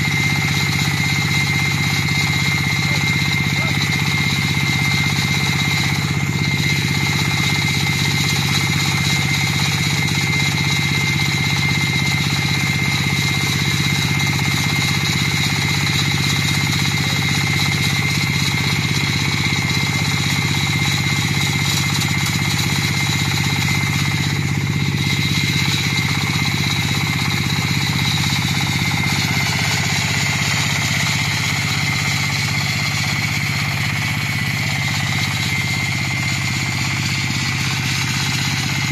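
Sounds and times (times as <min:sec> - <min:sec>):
diesel engine running under load: 0:00.0 - 0:38.9
saw blade whining through concrete: 0:00.0 - 0:38.9.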